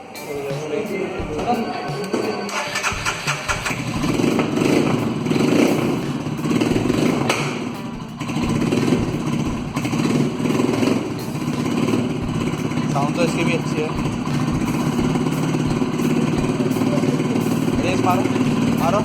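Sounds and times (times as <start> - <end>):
motorcycle engine thumping: 2.8 - 19.0.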